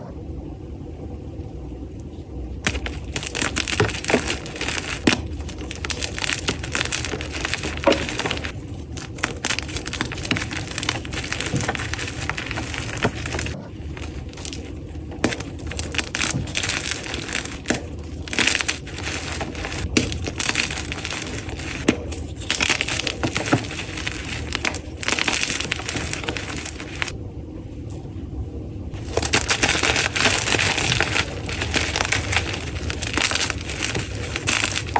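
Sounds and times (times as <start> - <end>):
chalk blocks crunching: 2.6 - 27.1, 29.0 - 34.9.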